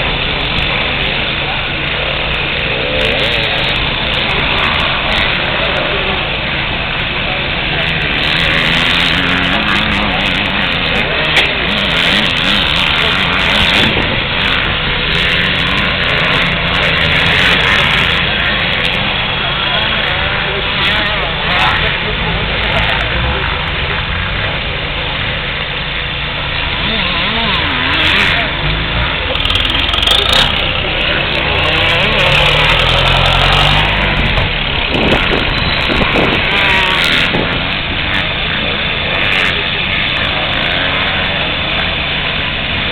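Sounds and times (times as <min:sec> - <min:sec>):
vehicle engine hum: 0:00.0 - 0:42.9.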